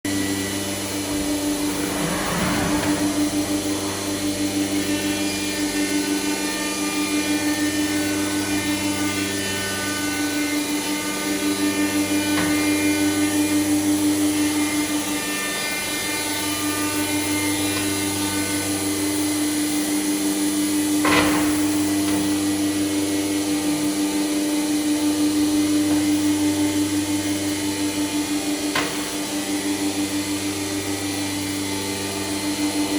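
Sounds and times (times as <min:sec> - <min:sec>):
low drone: 0:00.1 - 0:32.9
woodworking machine humming: 0:00.1 - 0:32.9.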